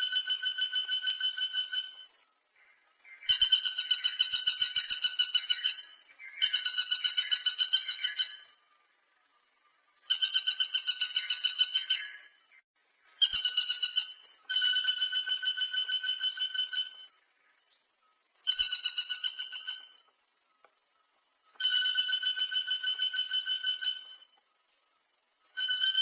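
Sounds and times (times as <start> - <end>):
woodpecker calling: 0.0 - 26.0.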